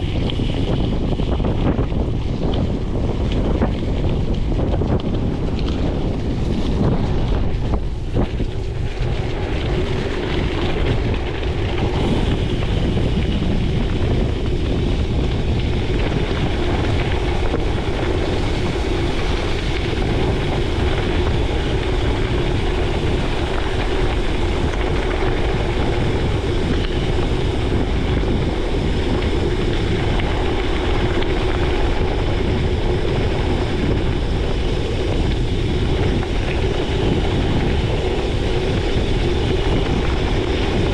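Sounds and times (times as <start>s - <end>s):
bike tyres rolling over gravel: 0.0s - 40.9s
wind noise on microphone: 0.0s - 40.9s.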